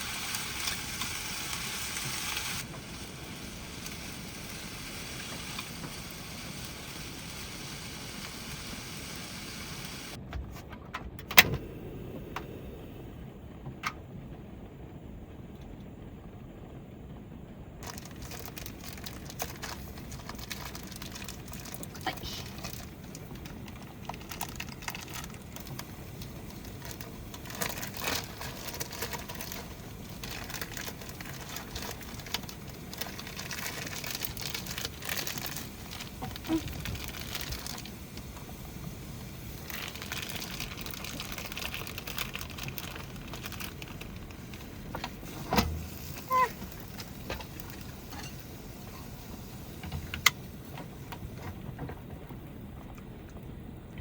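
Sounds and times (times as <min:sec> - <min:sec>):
heavy rain patter: 0:00.0 - 0:10.3, 0:11.6 - 0:54.0.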